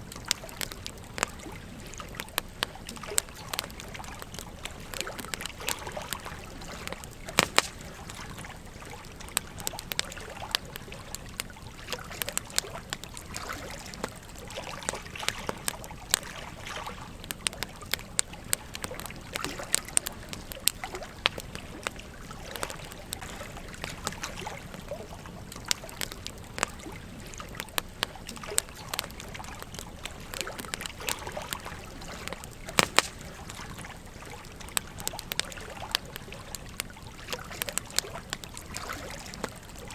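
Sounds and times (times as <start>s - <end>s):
campfire crackling and popping: 0.0s - 39.9s
gentle stream babbling: 0.0s - 39.9s.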